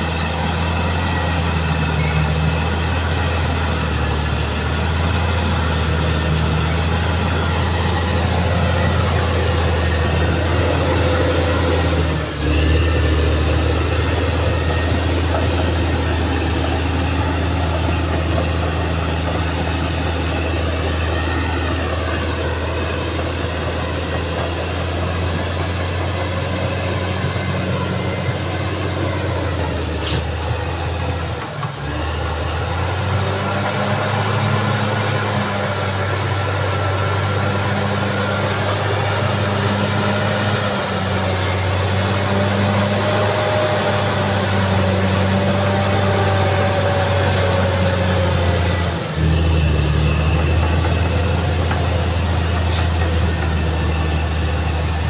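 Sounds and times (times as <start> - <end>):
bulldozer diesel engine under load: 0.0 - 55.0
high whine: 0.0 - 55.0
steel tracks running: 0.0 - 55.0.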